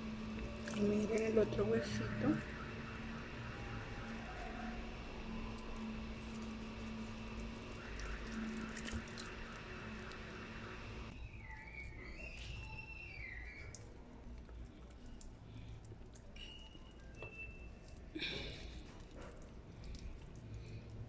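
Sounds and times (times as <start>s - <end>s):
steady low hum: 0.0s - 21.0s
wet squishing of raw meat: 0.2s - 1.4s, 2.4s - 10.4s, 11.1s - 21.0s.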